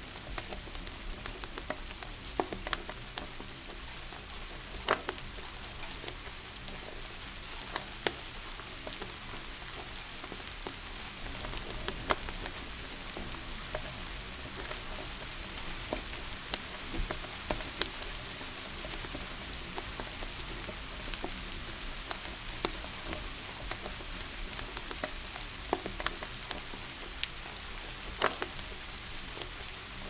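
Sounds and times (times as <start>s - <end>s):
steady rain hiss: 0.0s - 30.0s
wood fire crackling: 0.0s - 30.0s.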